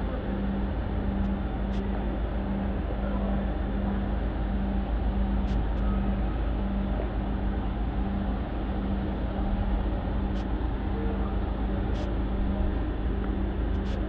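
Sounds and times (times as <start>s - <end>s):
constant low hum: 0.0s - 14.0s
low rumble of railway platform: 0.0s - 14.0s.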